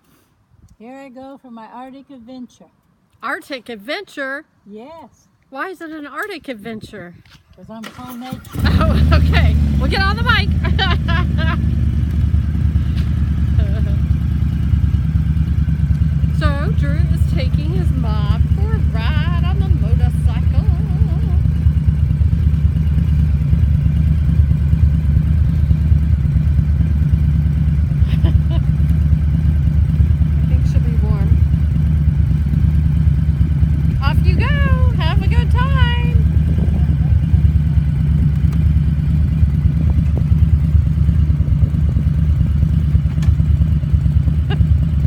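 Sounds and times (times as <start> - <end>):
motorcycle engine running: 7.9 - 45.0.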